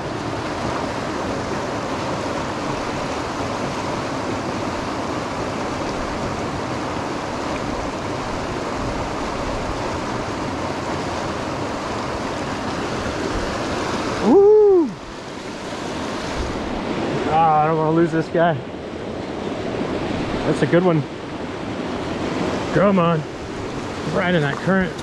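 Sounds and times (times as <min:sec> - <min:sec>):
river rushing over boulders: 0:00.0 - 0:25.0.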